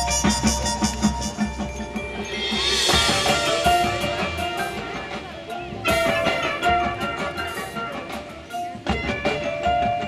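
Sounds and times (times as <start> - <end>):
marching band playing: 0.0 - 10.0.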